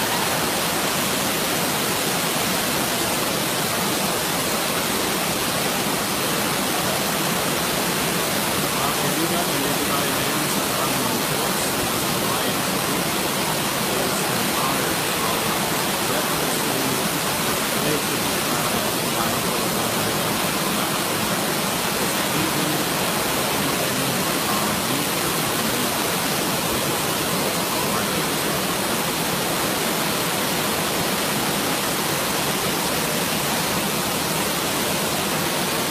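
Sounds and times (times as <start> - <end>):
waterfall rushing over boulders: 0.0 - 35.9.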